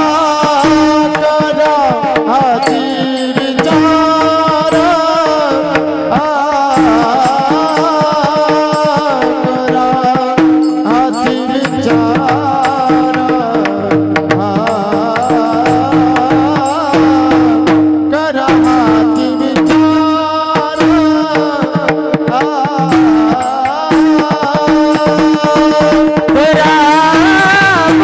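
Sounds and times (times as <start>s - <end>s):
hand cymbals struck: 0.0s - 28.0s
men singing: 0.0s - 28.0s.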